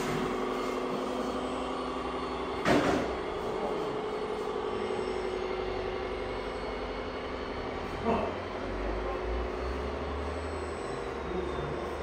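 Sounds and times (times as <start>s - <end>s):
model truck mechanical hum: 0.0s - 12.0s.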